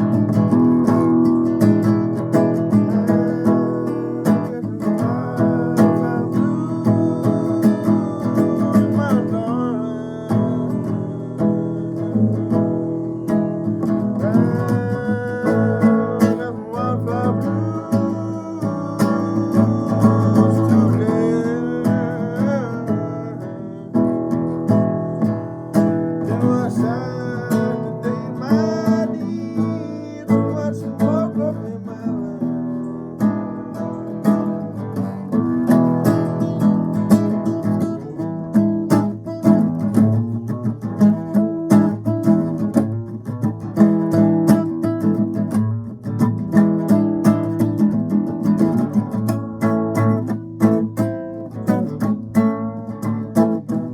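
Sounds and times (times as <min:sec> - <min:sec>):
acoustic guitar playing blues: 0:00.0 - 0:53.9.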